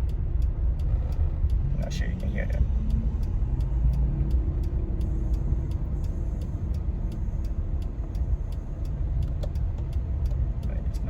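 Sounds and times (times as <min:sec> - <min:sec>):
light ticking: 0:00.0 - 0:11.0.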